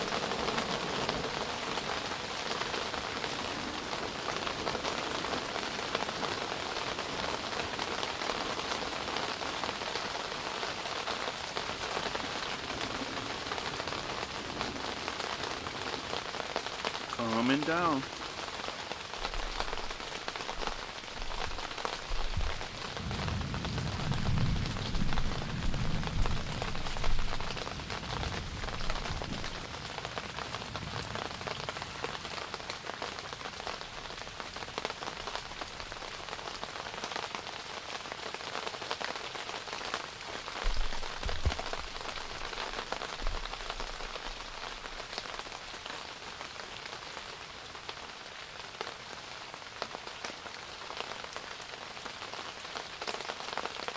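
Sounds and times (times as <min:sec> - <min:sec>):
rain falling on a tent: 0:00.0 - 0:53.9.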